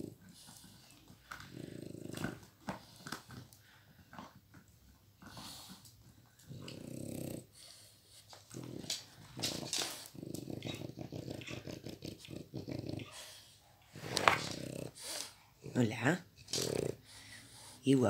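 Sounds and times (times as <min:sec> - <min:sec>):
dog growling: 0:00.0 - 0:04.4, 0:05.2 - 0:17.8.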